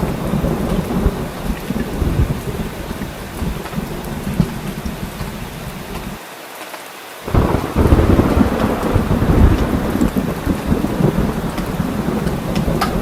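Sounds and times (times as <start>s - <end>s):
thunder rumbling: 0.0s - 6.2s, 7.3s - 13.0s
heavy rain: 0.0s - 13.0s.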